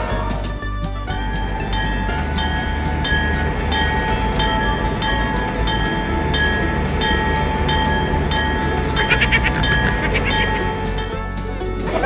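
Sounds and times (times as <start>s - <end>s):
toy train chugging whine: 0.0s - 12.0s.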